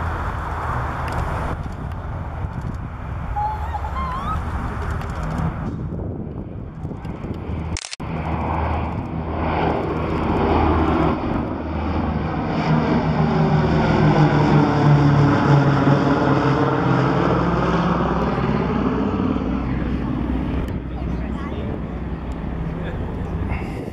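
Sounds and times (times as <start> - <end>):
propeller plane engines droning: 0.0 - 23.9.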